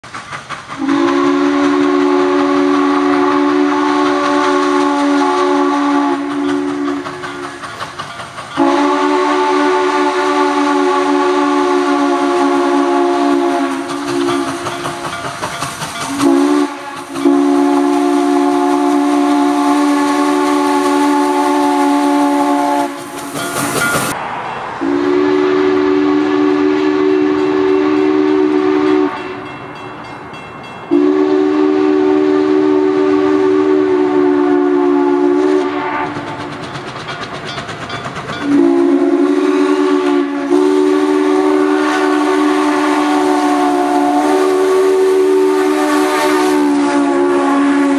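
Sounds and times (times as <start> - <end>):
locomotive exhaust chuffing: 0.0 - 24.2, 31.0 - 47.9
train rolling: 0.0 - 47.9
steam locomotive chime whistle: 0.8 - 24.2, 24.8 - 47.9.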